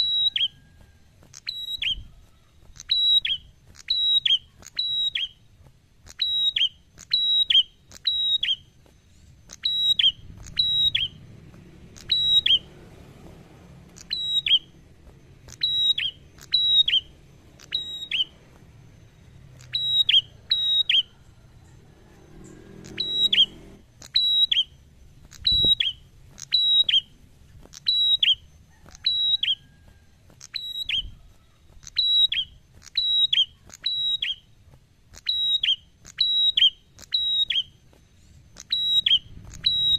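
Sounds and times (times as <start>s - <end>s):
bird singing whistled notes: 0.0s - 12.8s, 13.9s - 39.9s.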